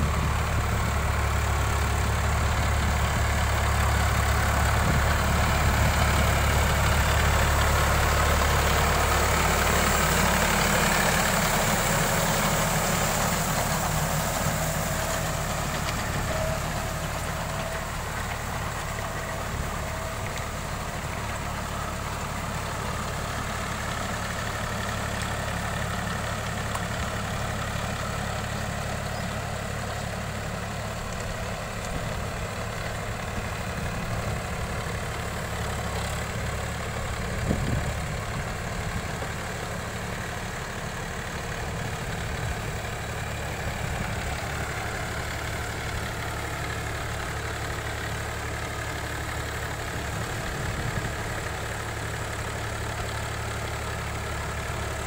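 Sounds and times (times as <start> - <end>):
diesel tractor engine under load: 0.0 - 55.0.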